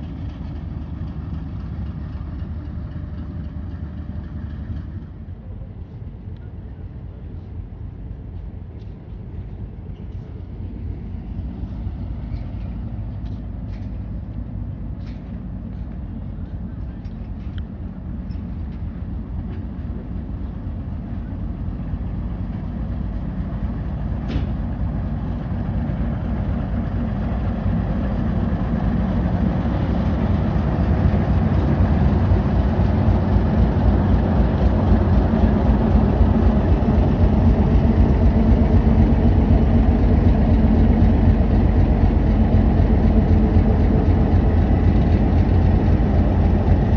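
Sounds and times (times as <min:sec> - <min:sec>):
diesel locomotive engine rumble: 0:00.0 - 0:46.9.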